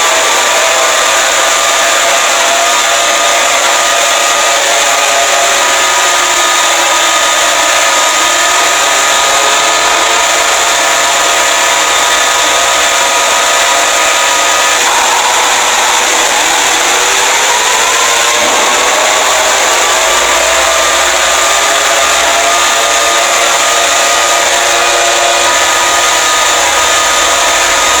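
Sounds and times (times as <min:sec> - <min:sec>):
held alarm tones: 0:00.0 - 0:28.0
loud static: 0:00.0 - 0:28.0.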